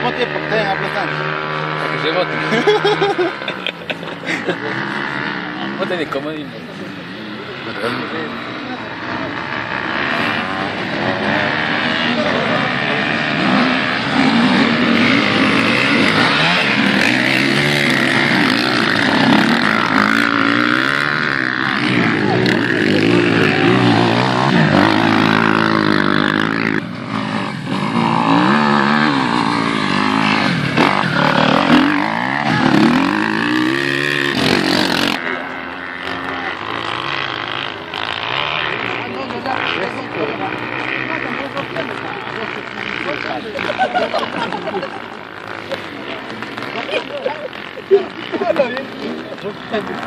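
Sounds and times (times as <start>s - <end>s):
racing motorcycle engines revving: 0.0s - 50.0s.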